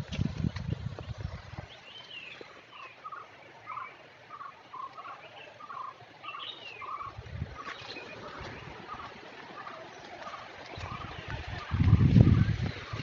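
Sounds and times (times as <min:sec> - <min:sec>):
birds calling short repeated notes: 0:01.4 - 0:13.0.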